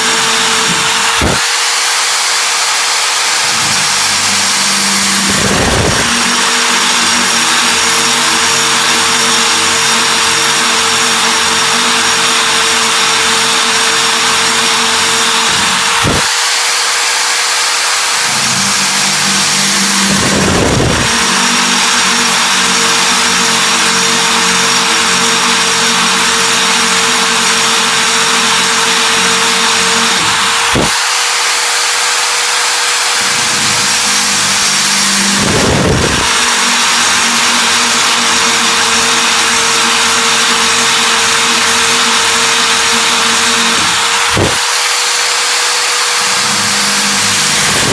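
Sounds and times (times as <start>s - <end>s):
core bit grinding hiss: 0.0s - 47.9s
power drill motor hum: 0.0s - 47.9s.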